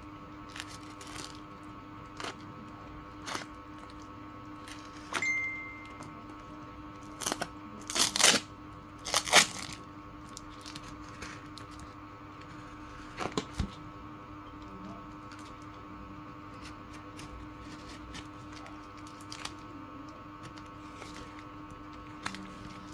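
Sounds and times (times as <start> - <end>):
faint hum: 0.0 - 22.9.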